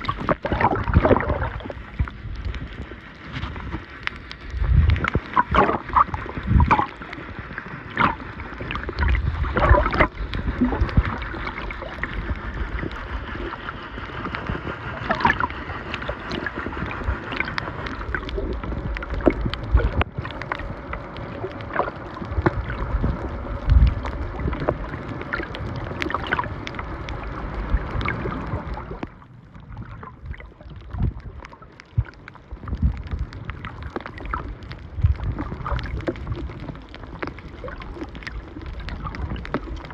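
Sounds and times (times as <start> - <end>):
steady hum: 0.0 - 39.2
muffled underwater movement: 0.0 - 39.9.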